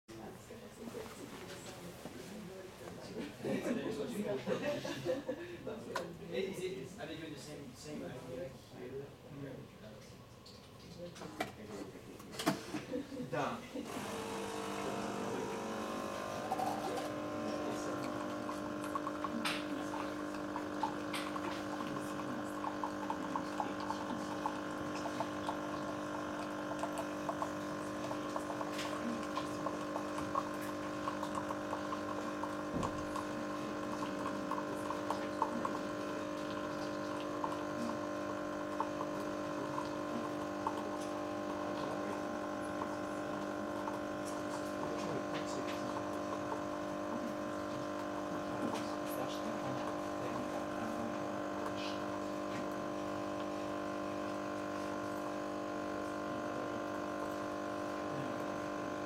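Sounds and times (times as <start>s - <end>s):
coffee machine pump humming: 10.3s - 59.0s
coffee flowing into cup: 10.4s - 59.0s.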